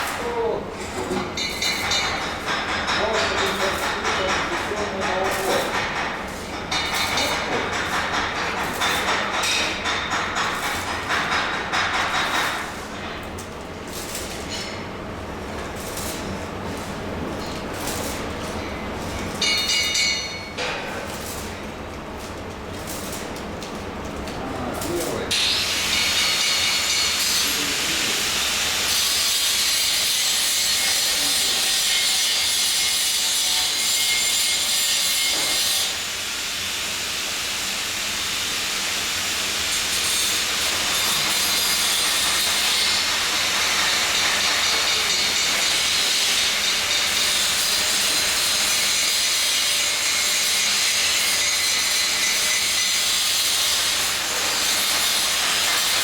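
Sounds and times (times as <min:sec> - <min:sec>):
welding hiss: 0:00.0 - 0:14.8, 0:15.5 - 0:21.6, 0:24.8 - 0:56.0.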